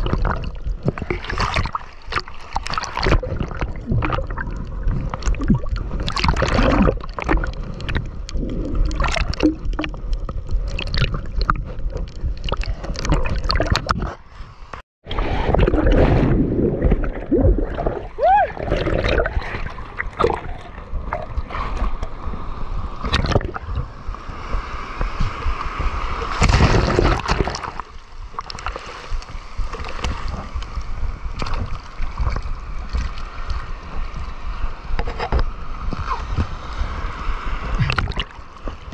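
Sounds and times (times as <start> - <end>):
sea water sloshing and splashing: 0.0 - 38.9.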